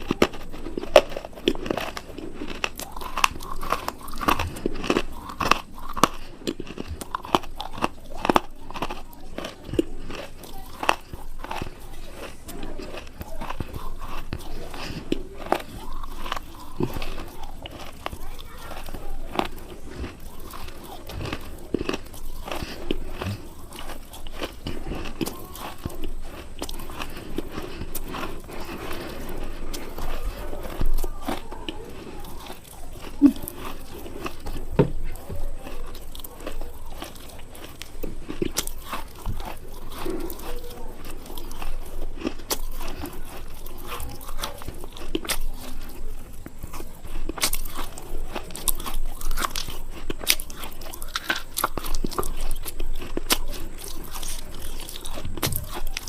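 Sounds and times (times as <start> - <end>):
crunchy food being chewed: 0.0 - 56.0.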